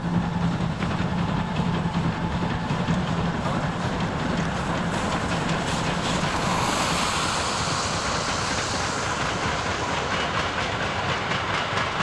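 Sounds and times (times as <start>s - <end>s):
steam locomotive working: 0.0s - 12.0s.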